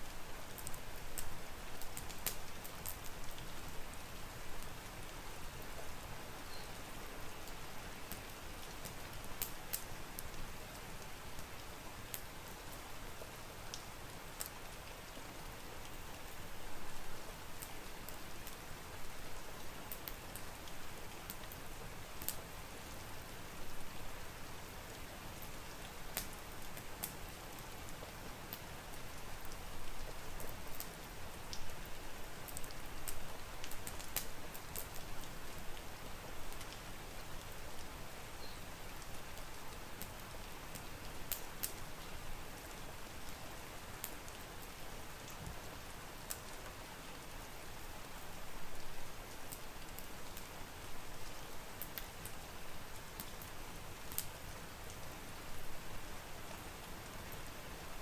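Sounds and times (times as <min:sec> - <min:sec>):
steady rain hiss: 0:00.0 - 0:58.0
wood fire crackling: 0:00.0 - 0:58.0.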